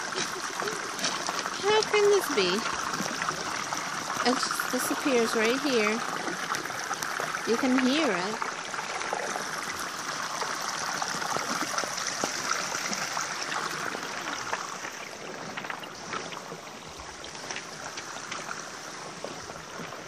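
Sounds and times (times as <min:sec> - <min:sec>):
brook trickling over cobbles: 0:00.0 - 0:20.0.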